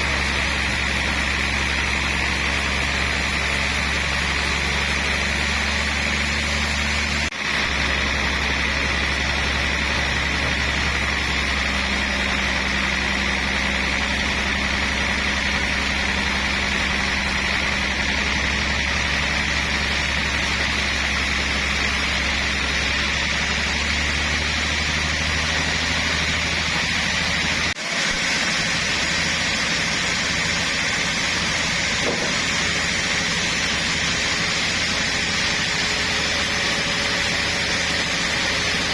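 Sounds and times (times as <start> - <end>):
high machinery whine: 0.0 - 38.9
low engine drone: 0.0 - 38.9.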